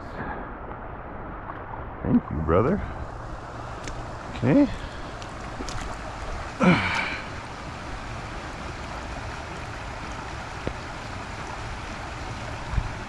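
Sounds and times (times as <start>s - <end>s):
creek water running over gravel: 1.4s - 13.0s.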